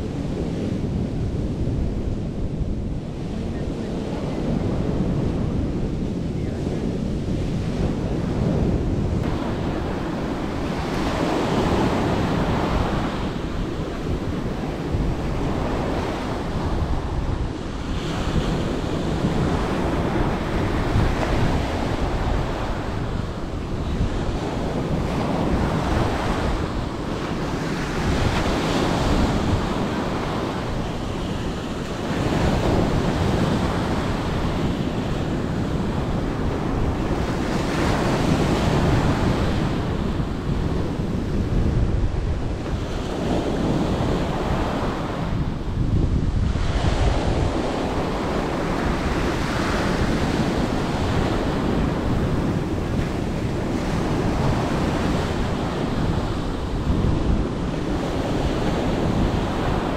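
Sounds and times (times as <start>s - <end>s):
wind buffeting the microphone: 0.0s - 59.9s
rough surf breaking: 1.9s - 59.9s.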